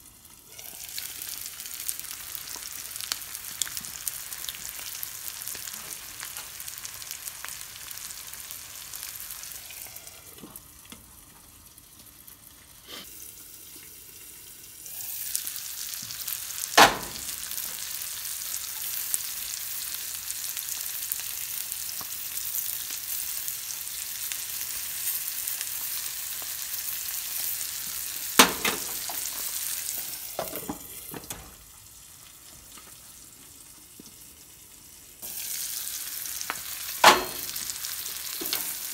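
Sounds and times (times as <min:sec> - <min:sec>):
eggs and ham sizzling in a skillet: 0:00.0 - 0:38.9.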